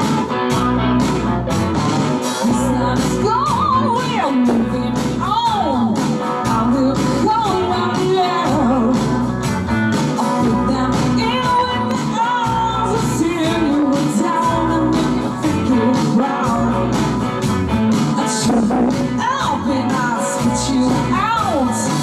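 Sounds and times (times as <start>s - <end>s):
live rock band playing: 0.0s - 22.0s
woman singing: 2.2s - 9.5s, 10.1s - 22.0s.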